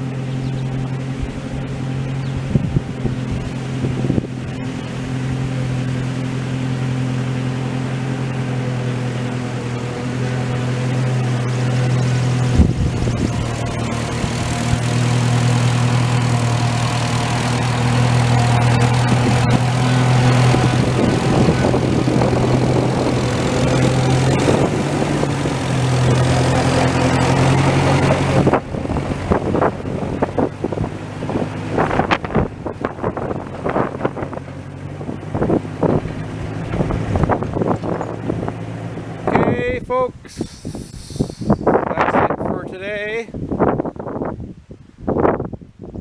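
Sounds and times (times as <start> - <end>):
tractor engine running: 0.0 - 44.7.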